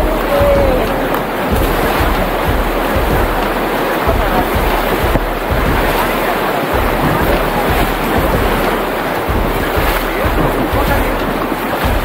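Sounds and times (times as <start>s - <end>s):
white water rushing: 0.0s - 12.0s
wind buffeting microphone: 0.0s - 12.0s.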